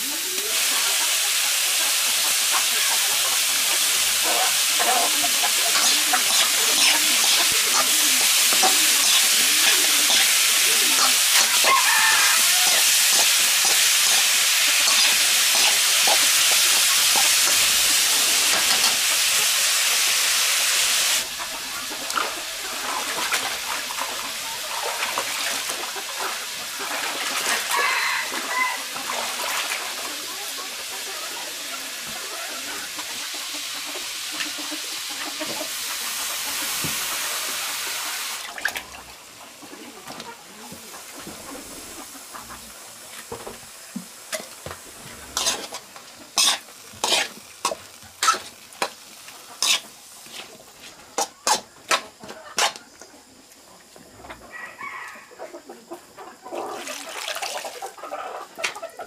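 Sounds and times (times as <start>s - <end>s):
food sizzling in a pan: 0.0s - 52.8s
chickens clucking: 0.0s - 59.0s.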